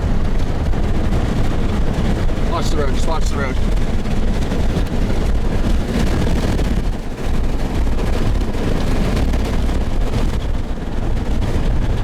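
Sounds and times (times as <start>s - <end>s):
strong wind rushing through car window: 0.0s - 12.0s
wind buffeting microphone: 0.0s - 12.0s.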